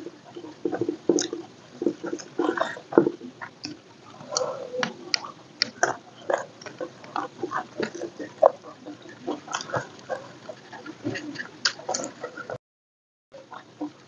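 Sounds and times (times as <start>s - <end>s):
mouth smacks and clicks: 0.2s - 12.6s.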